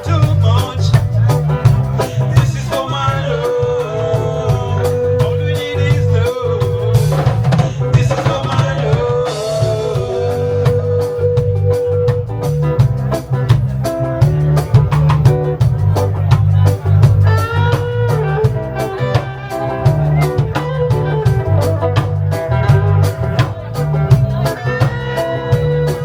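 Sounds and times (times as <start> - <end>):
reggae band playing: 0.0 - 26.0.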